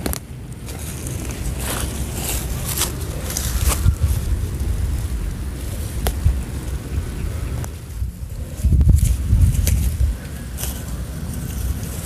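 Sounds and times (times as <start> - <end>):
dry straw rustling and crackling: 0.0 - 12.0
wind rumble on microphone: 0.0 - 12.0.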